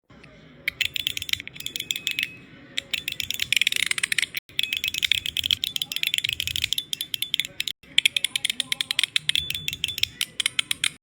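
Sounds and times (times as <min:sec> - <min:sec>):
metal fidget toy clicking: 0:00.6 - 0:11.0.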